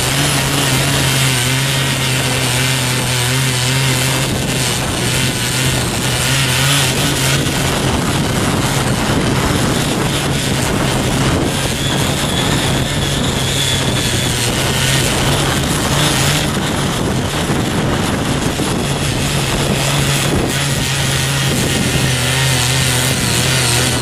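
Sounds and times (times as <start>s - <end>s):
small engine running: 0.0s - 24.0s
tines tilling soil: 0.0s - 24.0s.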